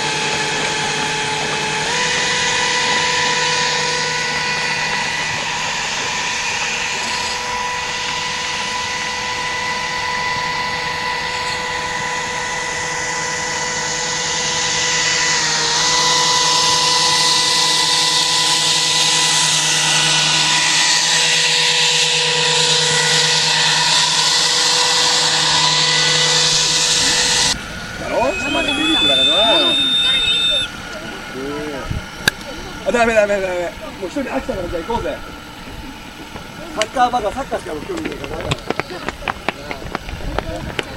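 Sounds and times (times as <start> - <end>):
airy rush: 0.0 - 40.9
drone propellers whining: 0.0 - 40.9
low hum: 0.0 - 40.9.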